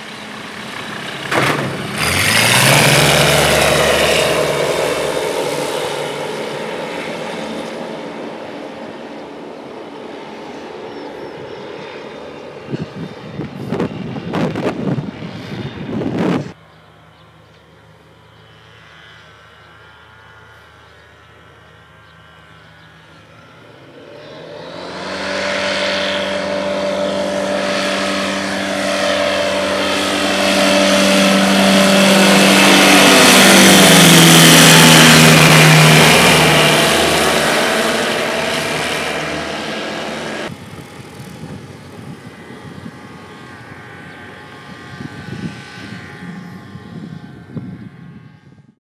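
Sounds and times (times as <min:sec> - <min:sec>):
propeller aircraft flying overhead: 0:00.0 - 0:48.8.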